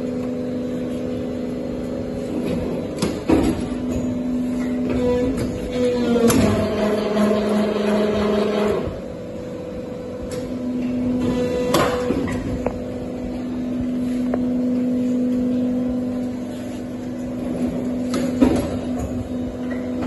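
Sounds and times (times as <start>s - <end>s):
hydraulic motor and pump hum: 0.0s - 20.0s.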